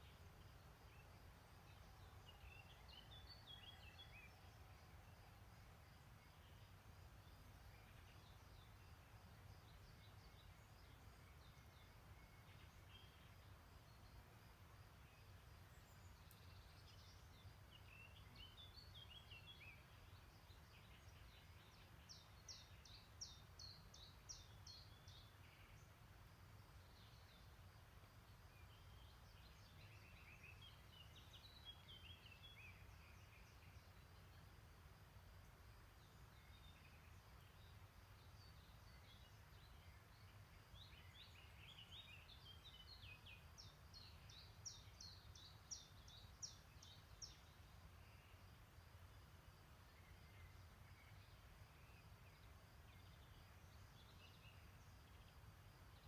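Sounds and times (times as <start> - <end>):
distant songbirds singing: 0.0 - 56.0.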